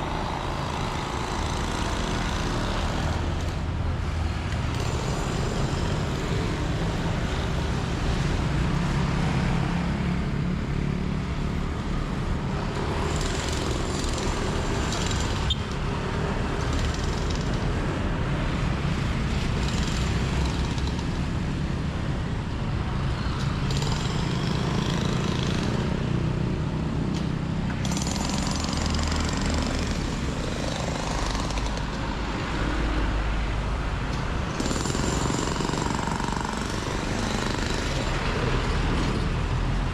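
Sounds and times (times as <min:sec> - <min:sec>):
vehicle engines rumbling: 0:00.0 - 0:39.9.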